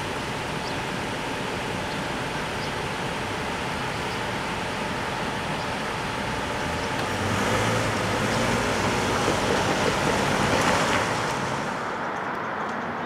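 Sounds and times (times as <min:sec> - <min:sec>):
tyres hissing on wet road: 0:00.0 - 0:12.0.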